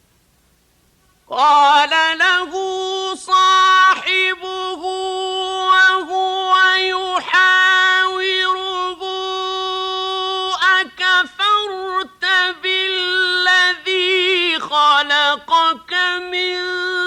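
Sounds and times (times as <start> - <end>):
man chanting recitation: 1.3 - 17.0.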